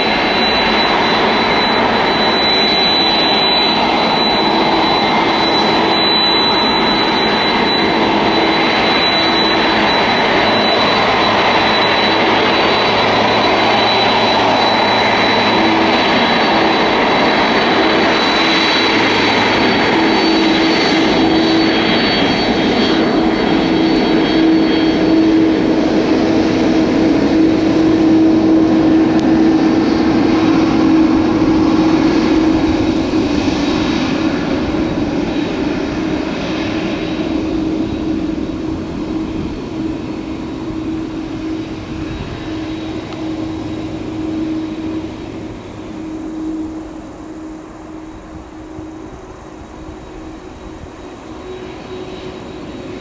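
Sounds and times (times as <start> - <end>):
jet engines roaring and whining: 0.0 - 53.0.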